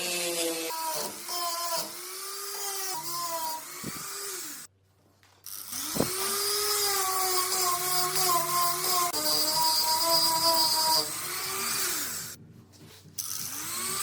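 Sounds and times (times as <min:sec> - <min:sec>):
power tool motor whining: 0:00.0 - 0:04.7, 0:05.5 - 0:12.4, 0:13.2 - 0:14.0.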